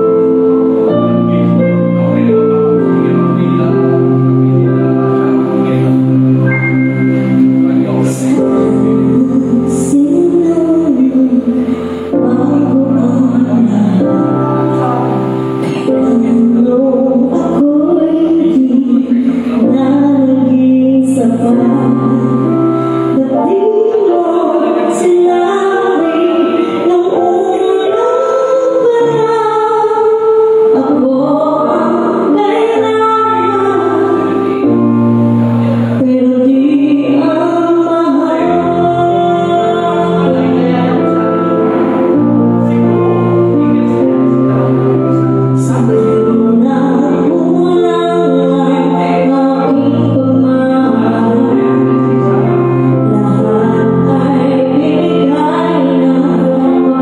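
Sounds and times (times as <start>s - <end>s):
backing music: 0.0s - 57.0s
woman singing into microphone: 0.0s - 57.0s.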